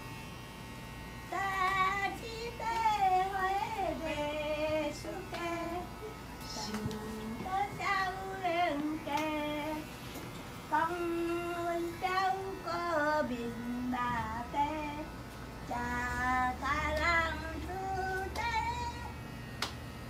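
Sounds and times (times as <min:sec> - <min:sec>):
elderly woman singing folk song: 0:01.3 - 0:09.8, 0:10.7 - 0:15.1, 0:15.7 - 0:19.1.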